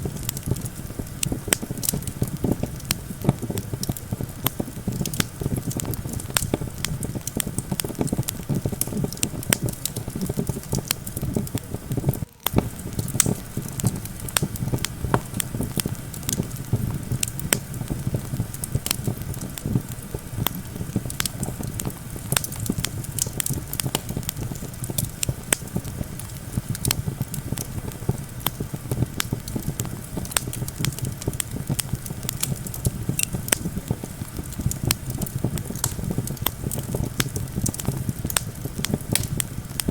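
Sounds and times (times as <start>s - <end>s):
campfire crackling and popping: 0.0s - 39.9s
low rumble of wind: 0.0s - 39.9s.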